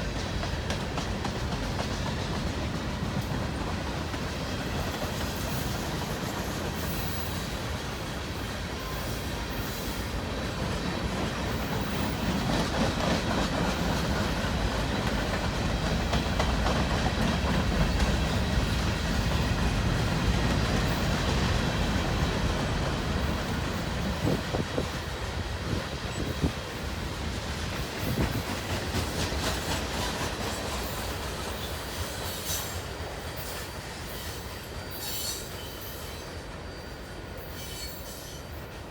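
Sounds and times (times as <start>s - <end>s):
clickety-clack over rail joints: 0.0s - 36.6s
train wheels rumbling on rails: 0.0s - 38.9s.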